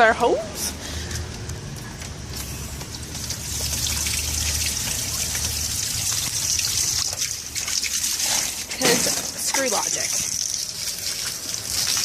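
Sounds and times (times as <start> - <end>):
water spraying from garden hose: 2.3 - 12.0.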